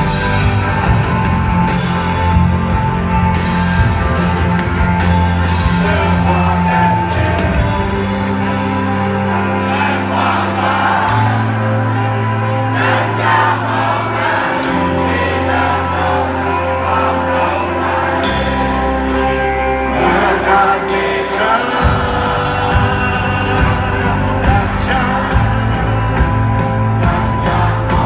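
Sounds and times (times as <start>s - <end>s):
band music: 0.0s - 28.0s.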